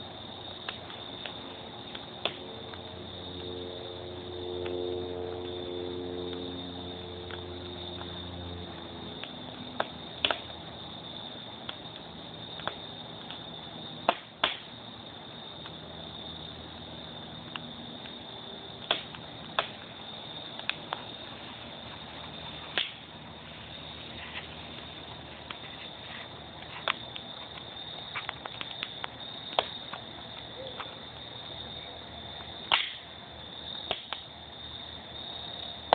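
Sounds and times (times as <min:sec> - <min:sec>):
wood fire crackling: 0:00.0 - 0:04.2, 0:07.0 - 0:35.9.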